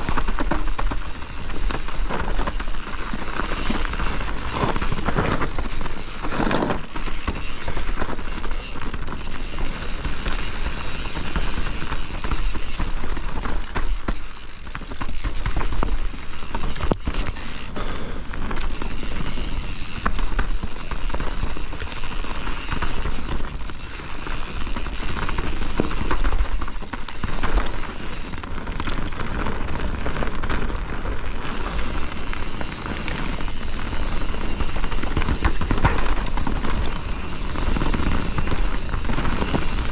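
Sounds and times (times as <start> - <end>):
bike chain and frame rattling: 0.0 - 39.9
tyres rolling over dirt and rocks: 0.0 - 39.9.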